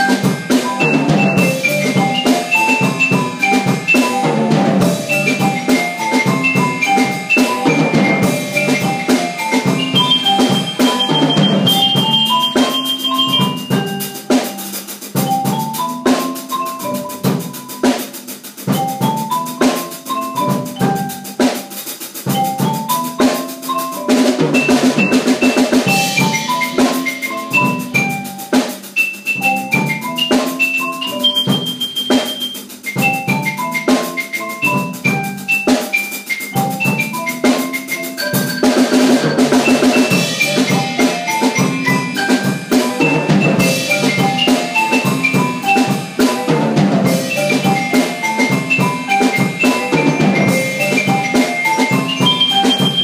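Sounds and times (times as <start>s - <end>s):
drum kit beat: 0.0s - 53.0s
marimba melody: 0.0s - 53.0s.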